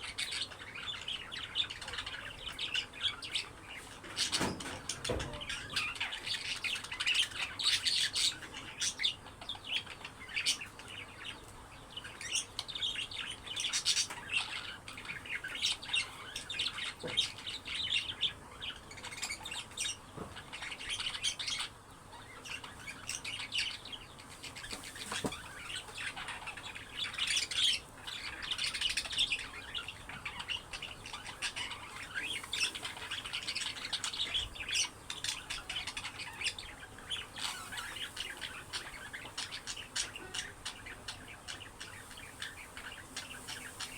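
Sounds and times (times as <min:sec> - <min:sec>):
budgerigars chirping and chattering: 0:00.0 - 0:43.9.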